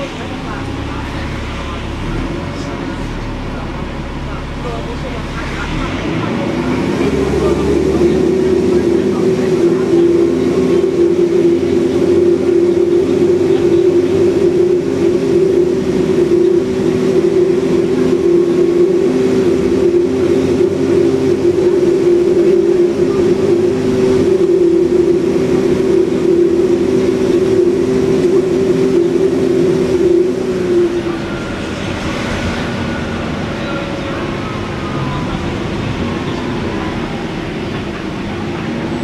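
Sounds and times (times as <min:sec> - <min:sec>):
bus diesel engine droning: 0:00.0 - 0:39.0.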